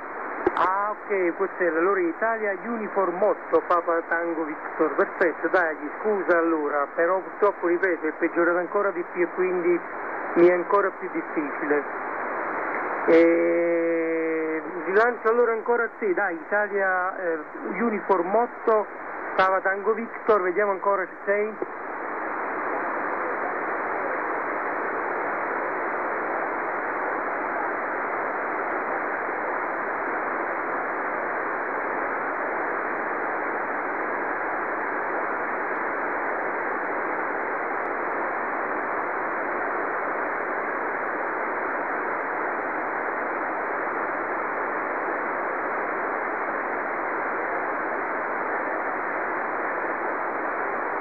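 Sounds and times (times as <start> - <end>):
radio band noise hiss: 0.0 - 51.0.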